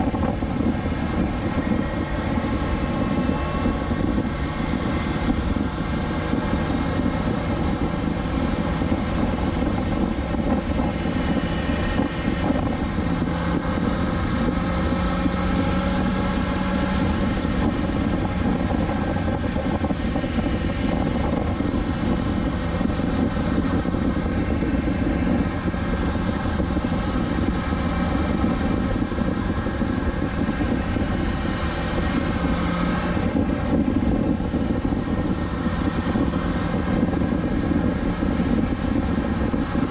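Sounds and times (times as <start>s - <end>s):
motorcycle engine cruising: 0.0s - 39.9s
wind and road rush: 0.0s - 39.9s.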